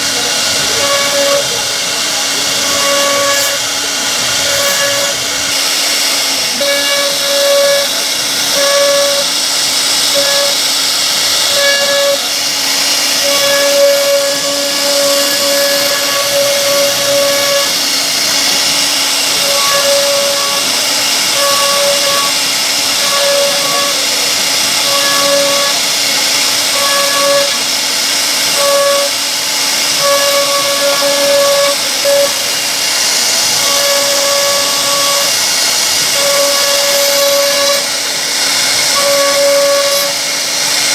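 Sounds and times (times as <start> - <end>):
wood router cutting wood: 0.0 - 40.9.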